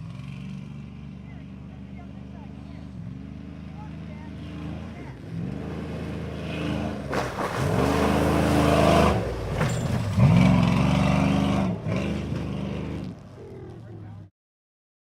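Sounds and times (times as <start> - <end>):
truck engine revving hard: 0.0 - 13.5.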